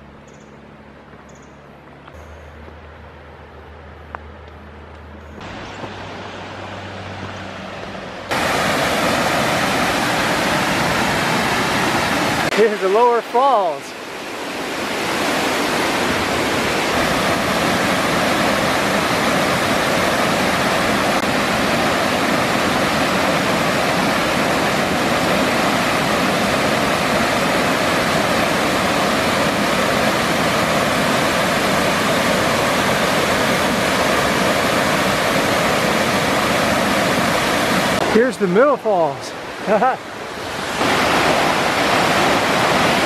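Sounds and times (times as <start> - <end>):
waterfall rushing: 5.4 - 43.0.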